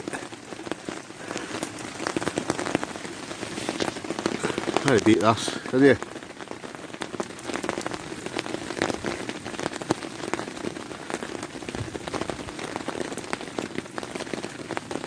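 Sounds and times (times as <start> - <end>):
heavy rain on a tarp: 0.0 - 15.0.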